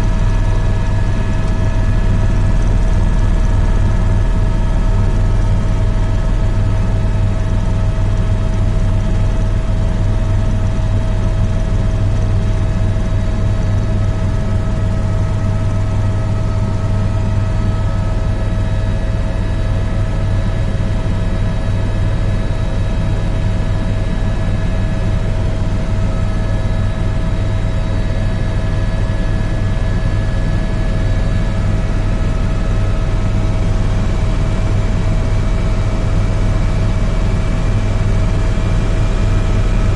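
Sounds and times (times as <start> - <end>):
helicopter cabin drone: 0.0 - 39.9.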